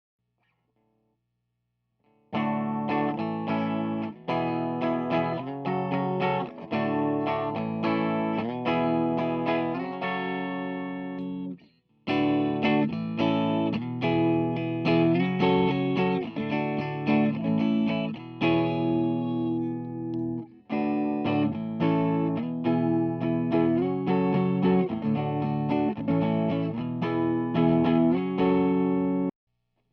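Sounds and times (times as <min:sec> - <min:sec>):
electric guitar chords strummed: 0:02.3 - 0:29.3.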